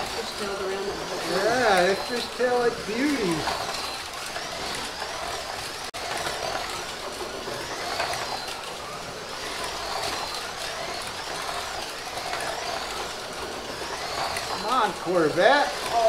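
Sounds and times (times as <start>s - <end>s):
slot car electric motors whining: 0.0s - 16.0s.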